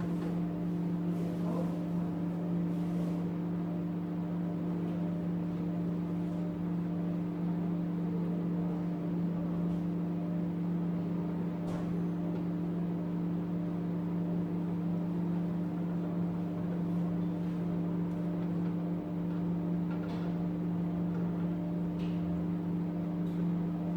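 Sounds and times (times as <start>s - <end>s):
microwave oven humming: 0.0s - 23.9s.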